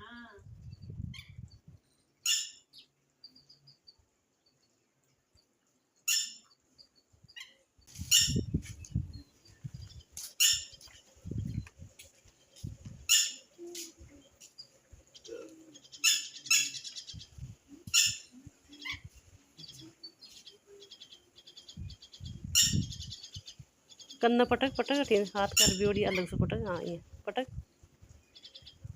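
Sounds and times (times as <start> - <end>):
bird chirping: 0.6 - 27.0, 27.6 - 28.9.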